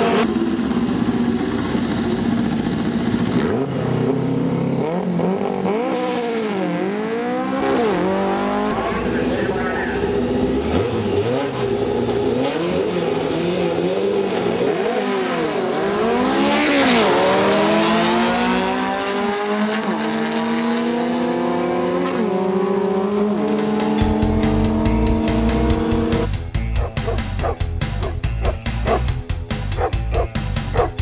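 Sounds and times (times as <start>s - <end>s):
car engines revving hard: 0.0s - 31.0s.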